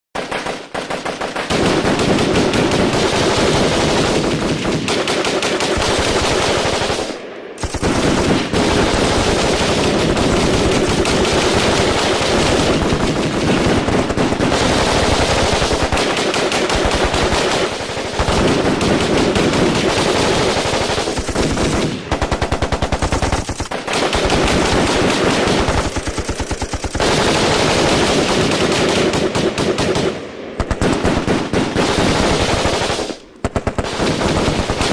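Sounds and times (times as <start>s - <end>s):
automatic weapons firing bursts: 0.2s - 34.9s.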